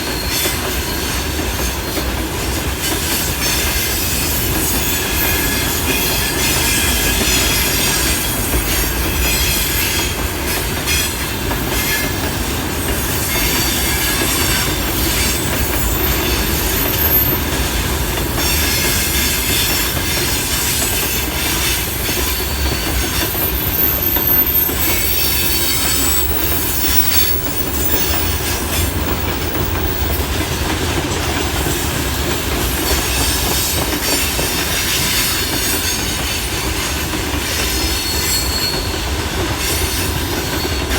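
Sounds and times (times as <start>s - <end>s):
freight train rumble: 0.0s - 40.9s
train wheels clicking over rail joints: 0.0s - 40.9s
high wheel squeal: 2.9s - 30.3s, 31.3s - 40.9s.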